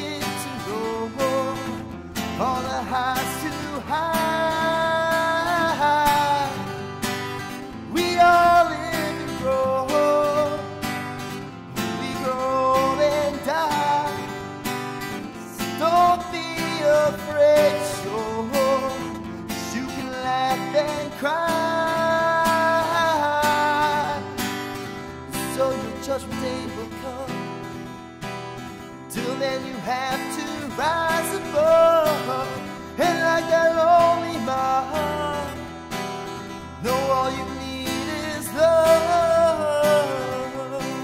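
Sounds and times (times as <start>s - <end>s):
man singing: 0.0s - 27.9s, 28.8s - 41.0s
acoustic guitar strumming: 0.0s - 41.0s.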